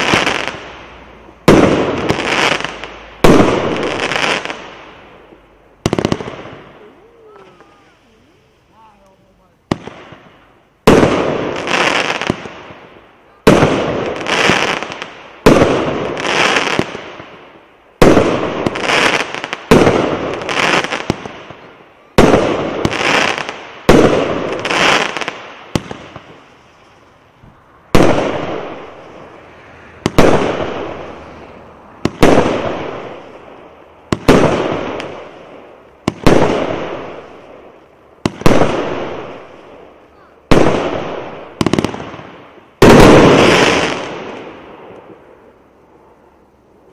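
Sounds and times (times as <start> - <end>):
fireworks bangs and bursts: 0.0 - 9.0, 9.6 - 45.5.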